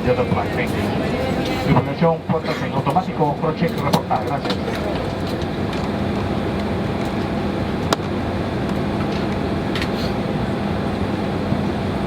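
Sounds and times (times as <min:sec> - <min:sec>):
cabin ventilation air rushing: 0:00.0 - 0:12.0.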